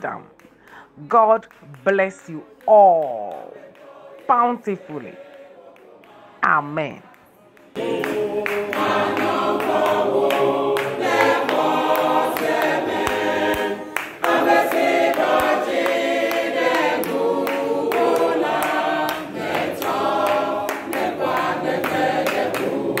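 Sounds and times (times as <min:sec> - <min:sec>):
choir singing in chorus: 0:02.4 - 0:23.0.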